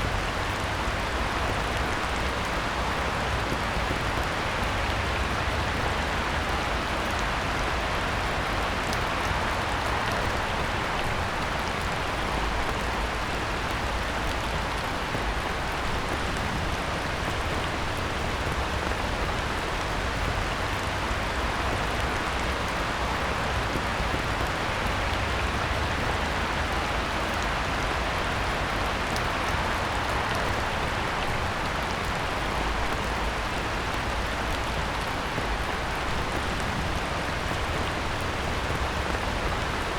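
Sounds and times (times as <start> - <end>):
heavy rain on a pond: 0.0 - 39.9.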